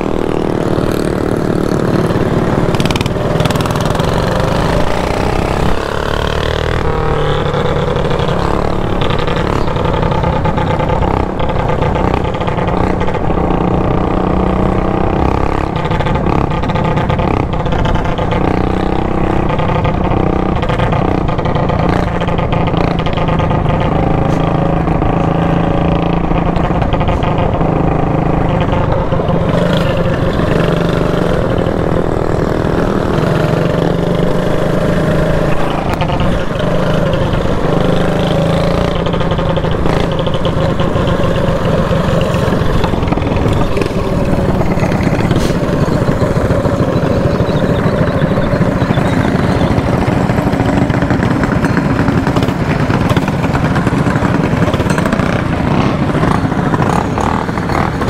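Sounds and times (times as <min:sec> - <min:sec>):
mini bike engine running: 0:00.0 - 0:58.0.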